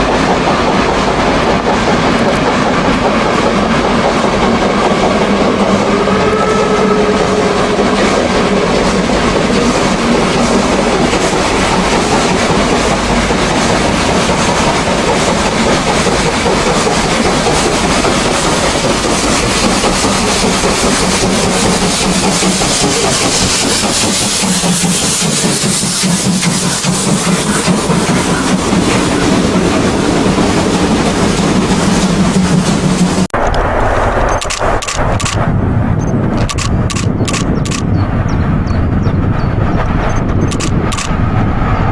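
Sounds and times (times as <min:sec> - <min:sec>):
train running on rails: 0:00.0 - 0:41.9.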